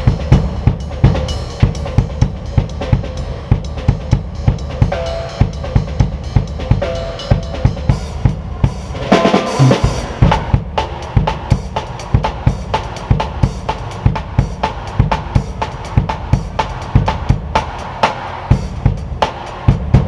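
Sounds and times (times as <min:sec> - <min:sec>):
cymbals crashing: 0:00.0 - 0:20.0
drum kit groove: 0:00.0 - 0:20.0.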